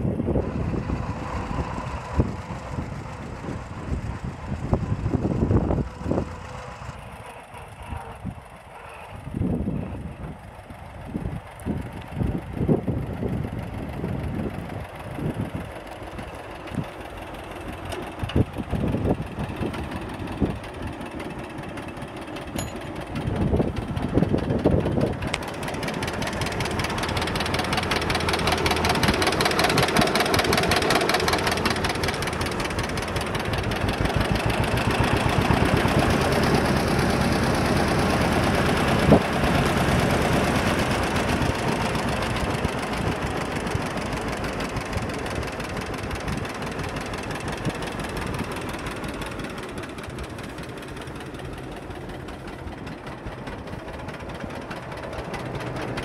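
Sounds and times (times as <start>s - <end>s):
two-cylinder engine running: 0.0s - 56.0s.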